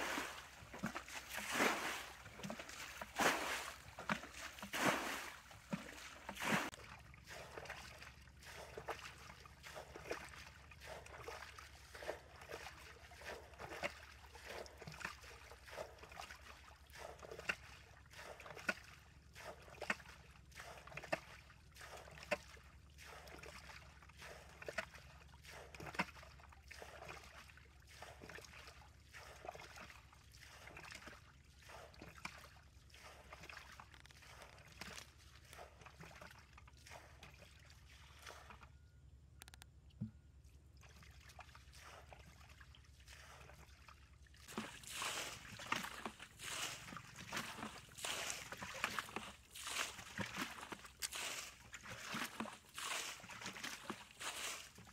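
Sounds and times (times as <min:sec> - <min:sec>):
muddy water splashing out: 0:00.0 - 0:38.7, 0:40.7 - 0:54.9
water trickling from a pipe: 0:00.0 - 0:38.8, 0:39.4 - 0:54.9
small water drips and splashes: 0:00.0 - 0:54.9.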